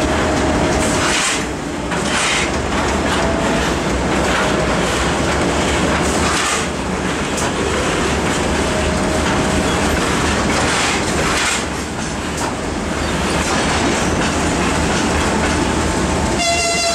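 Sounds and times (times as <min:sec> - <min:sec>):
diesel locomotive engine rumble: 0:00.0 - 0:16.9
wheels on rail: 0:00.0 - 0:16.9.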